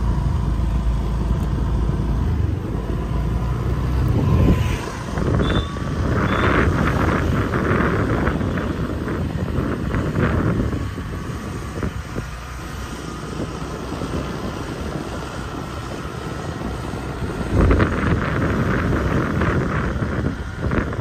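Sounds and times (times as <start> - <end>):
low rumble: 0.0 - 21.0
wind buffeting microphone: 0.0 - 21.0.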